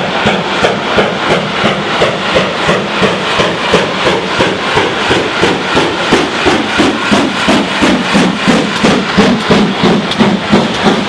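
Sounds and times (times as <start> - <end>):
steam locomotive exhaust beats: 0.0 - 11.0.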